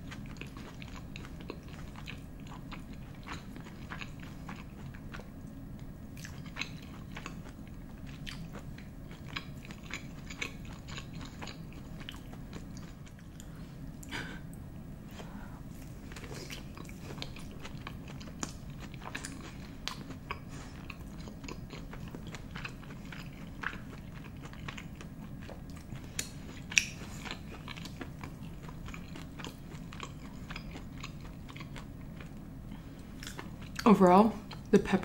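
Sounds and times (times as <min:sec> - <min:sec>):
wet chewing clicks and smacks: 0:00.1 - 0:14.1, 0:16.1 - 0:32.4, 0:33.2 - 0:33.9.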